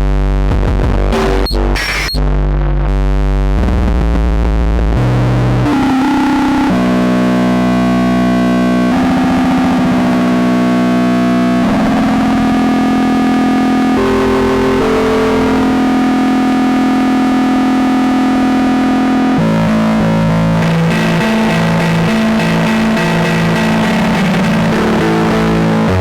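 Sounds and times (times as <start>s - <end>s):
distorted synthesizer chords: 0.0s - 26.0s.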